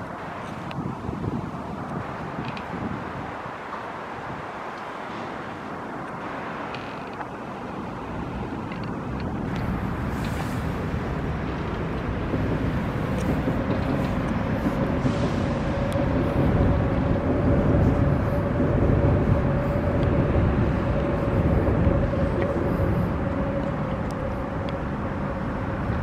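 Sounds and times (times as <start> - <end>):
low vehicle rumble: 0.0 - 26.0
steady humming tone: 4.2 - 26.0.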